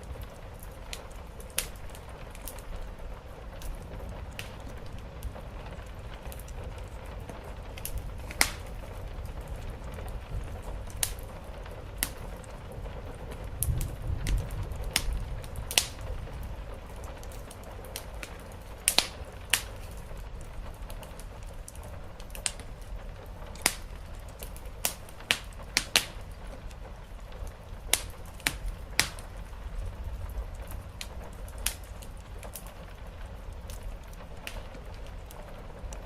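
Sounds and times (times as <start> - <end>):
rain hiss: 0.0 - 36.0
wood fire crackling and popping: 0.0 - 36.0.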